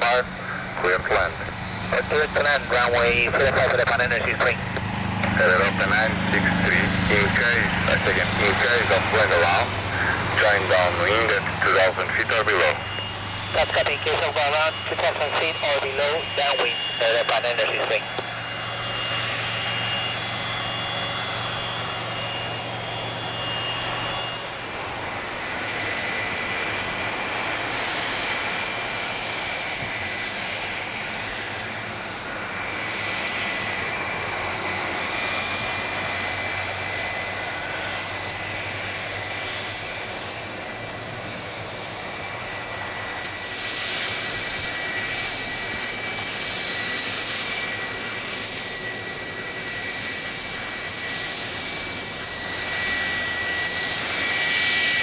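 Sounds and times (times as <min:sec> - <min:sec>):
jet airliner flying overhead: 0:00.0 - 0:55.0
jet engines whining on runway: 0:00.0 - 0:55.0.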